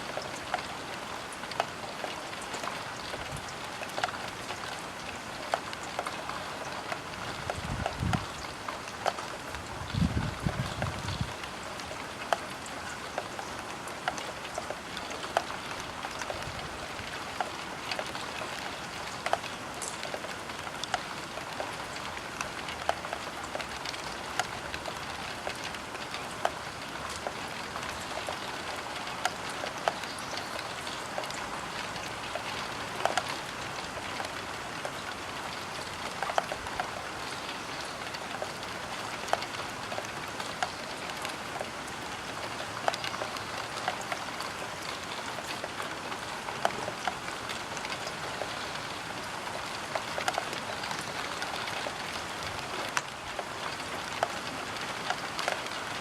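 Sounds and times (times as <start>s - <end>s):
rain pattering on window glass: 0.0s - 56.0s.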